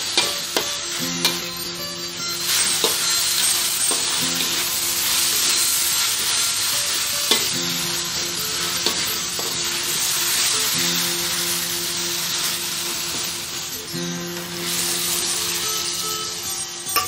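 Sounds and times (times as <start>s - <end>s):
metal spatula scraping wok: 0.0s - 17.0s
onions and chicken sizzling: 0.0s - 17.0s.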